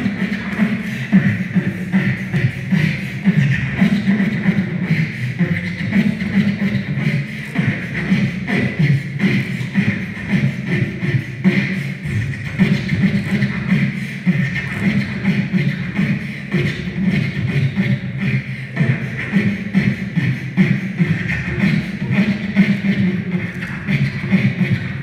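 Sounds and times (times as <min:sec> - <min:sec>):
beatboxing: 0:00.0 - 0:25.0.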